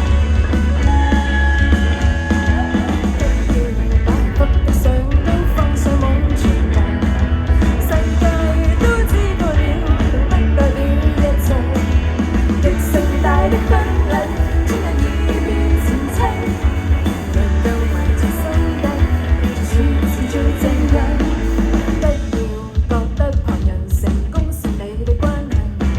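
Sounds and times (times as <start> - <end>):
person singing: 0.0 - 12.0, 12.6 - 25.9
heavy bass line: 0.0 - 23.9.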